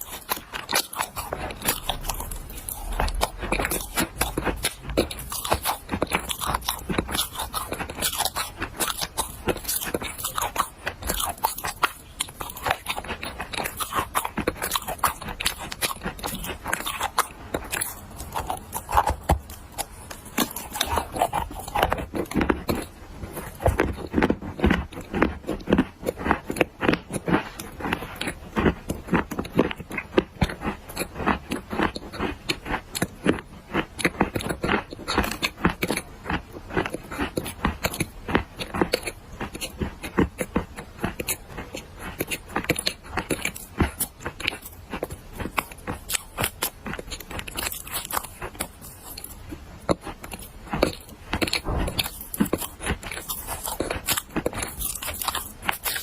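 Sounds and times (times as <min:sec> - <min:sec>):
clay being chewed crunching: 0:00.0 - 0:56.0.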